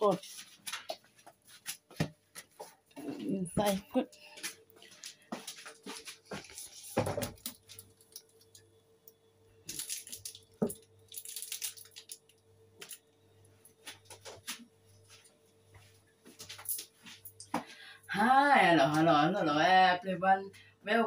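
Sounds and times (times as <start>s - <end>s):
faint steady hum: 0.2s - 21.0s.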